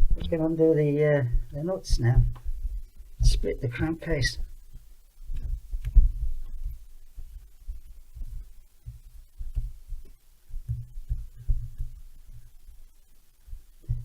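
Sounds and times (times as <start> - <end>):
dull low thuds: 1.2 - 14.0.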